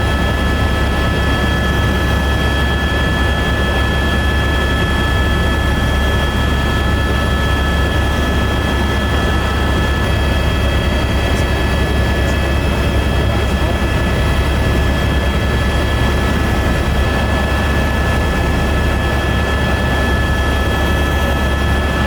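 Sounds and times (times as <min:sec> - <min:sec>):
helicopter rotor drone: 0:00.0 - 0:22.0
turbine whine: 0:00.0 - 0:22.0.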